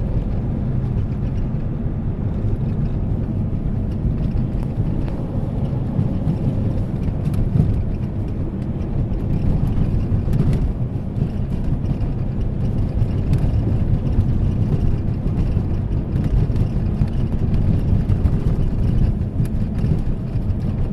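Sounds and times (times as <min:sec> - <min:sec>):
road and tyre noise in car: 0:00.0 - 0:20.9.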